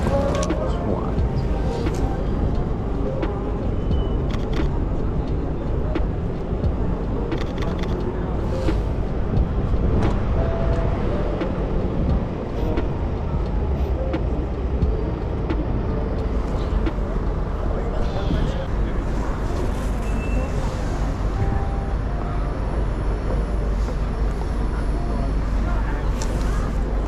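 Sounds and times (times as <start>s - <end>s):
passers-by voices: 0.0s - 27.0s
road traffic: 0.0s - 27.0s.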